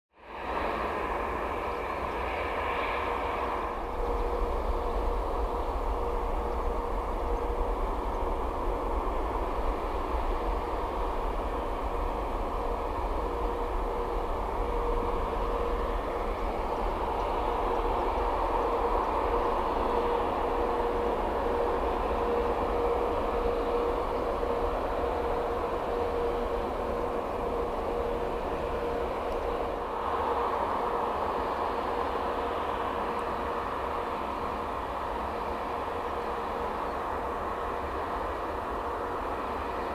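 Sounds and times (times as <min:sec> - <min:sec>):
distant jet engines rumbling: 0:00.2 - 0:39.9.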